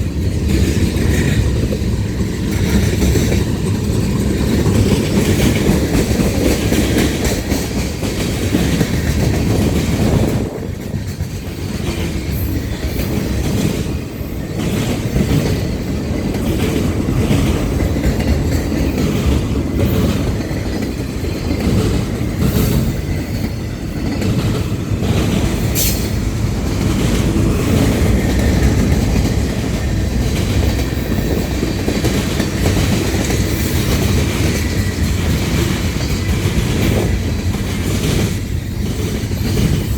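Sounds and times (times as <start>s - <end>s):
freight train wheels rumbling on rails: 0.0s - 39.9s.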